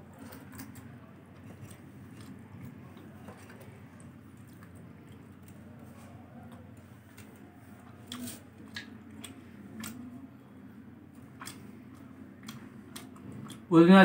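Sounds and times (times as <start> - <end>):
chewing: 0.0 - 10.4, 11.1 - 13.7.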